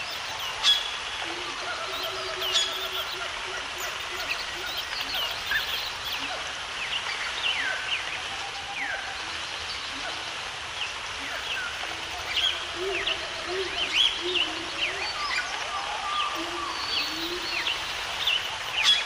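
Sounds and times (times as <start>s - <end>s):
birds chirping: 0.0s - 8.1s, 9.2s - 19.0s
background hiss: 0.0s - 19.0s.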